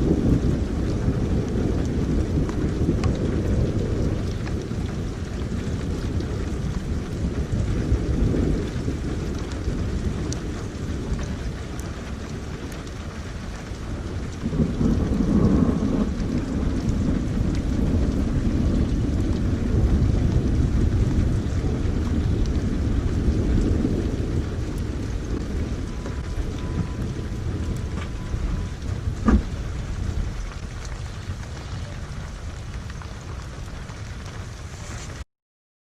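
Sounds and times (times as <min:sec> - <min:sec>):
thunder rumble: 0:00.0 - 0:35.2
steady rain: 0:00.0 - 0:35.3.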